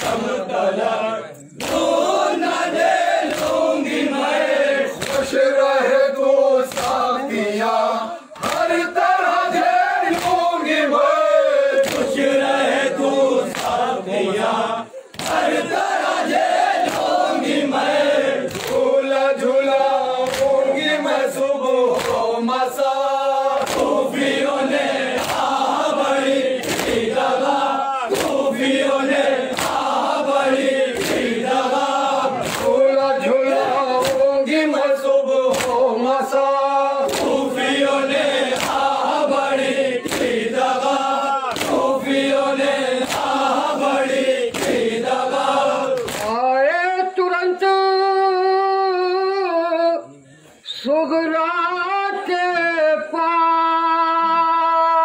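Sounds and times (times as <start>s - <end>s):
men chanting in unison: 0.0s - 47.9s, 50.0s - 55.0s.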